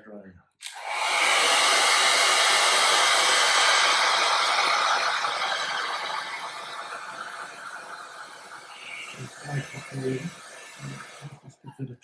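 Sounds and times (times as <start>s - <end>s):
hairdryer blowing: 0.6s - 11.4s.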